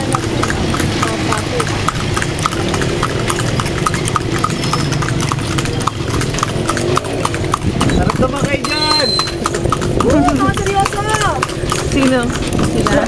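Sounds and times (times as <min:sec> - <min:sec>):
steady low rumble: 0:00.0 - 0:08.7, 0:09.3 - 0:13.0
horse hooves on pavement: 0:00.0 - 0:13.0.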